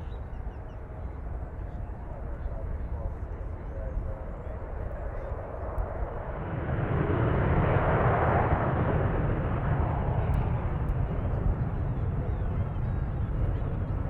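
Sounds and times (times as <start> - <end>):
jet airliner engines passing: 0.0 - 14.0.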